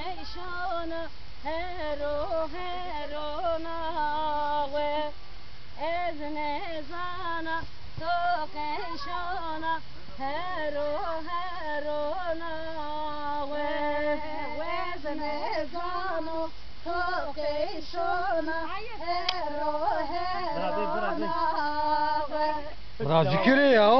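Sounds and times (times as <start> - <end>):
women and girls singing together: 0.0 - 23.6.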